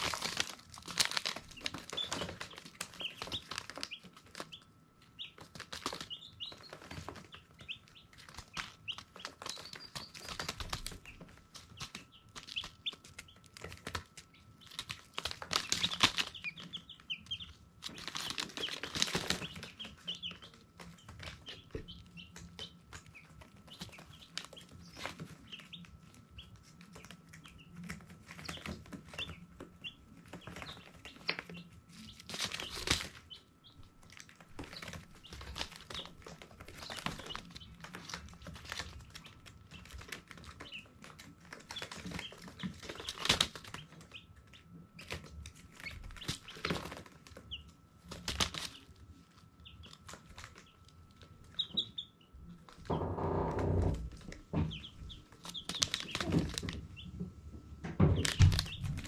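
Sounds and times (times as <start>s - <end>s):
baby chicks peeping: 0.0s - 59.0s
faint steady hum: 0.0s - 59.0s.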